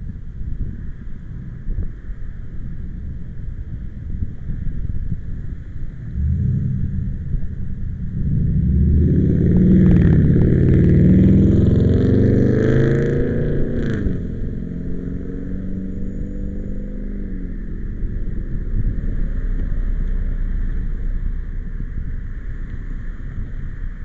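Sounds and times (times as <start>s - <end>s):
wind buffeting microphone: 0.0s - 24.0s
vehicle engine running: 2.0s - 24.0s.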